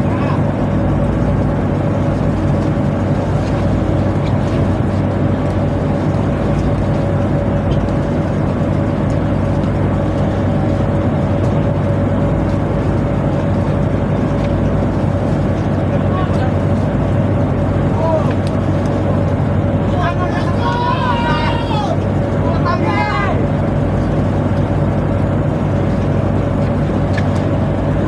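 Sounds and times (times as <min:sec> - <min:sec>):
low engine hum: 0:00.0 - 0:28.0
steady machinery whine: 0:00.0 - 0:28.0.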